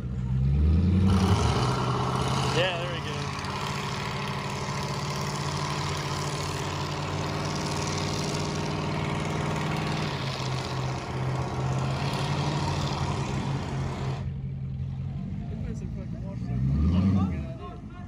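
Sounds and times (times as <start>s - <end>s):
car engine at high revs: 0.0s - 17.7s
tires spinning on pavement: 0.0s - 18.0s.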